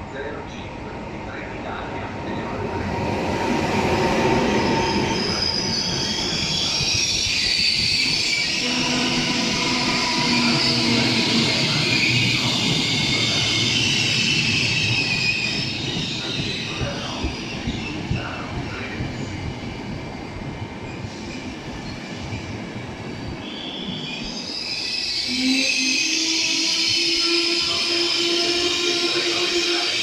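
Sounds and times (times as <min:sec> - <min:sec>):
rumble of train cars: 0:00.0 - 0:30.0
train wheels squealing: 0:04.0 - 0:30.0.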